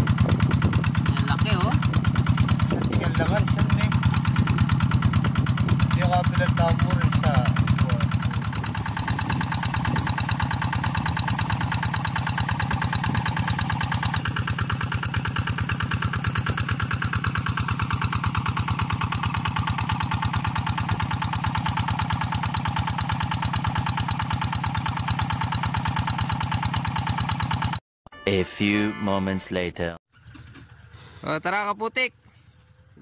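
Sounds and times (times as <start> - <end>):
diesel engine running: 0.0 - 27.8, 30.1 - 33.0.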